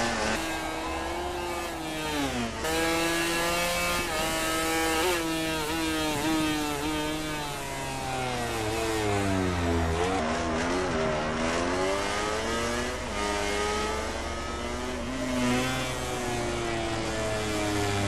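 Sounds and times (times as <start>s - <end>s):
racing motorcycles at high revs: 0.0s - 18.0s.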